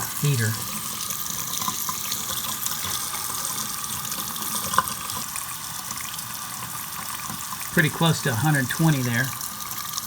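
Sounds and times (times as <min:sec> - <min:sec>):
faucet running hot water: 0:00.0 - 0:10.0.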